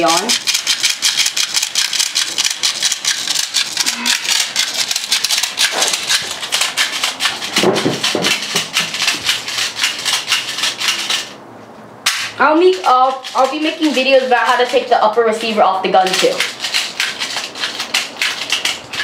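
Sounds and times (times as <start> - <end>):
plastic pellets rattling in magazine: 0.0 - 11.4, 12.1 - 19.0.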